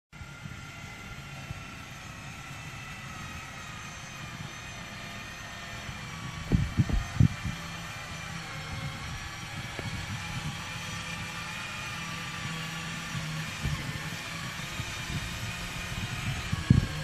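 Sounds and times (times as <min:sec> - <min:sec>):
aircraft tug engine running: 0:00.1 - 0:17.0.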